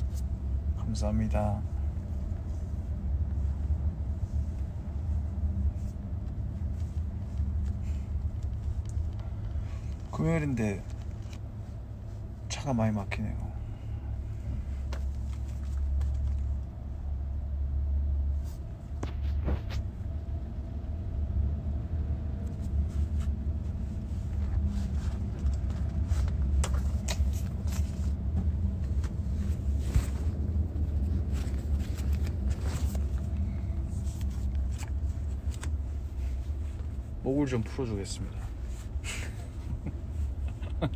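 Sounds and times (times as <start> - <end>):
car interior rumble: 0.0 - 40.9.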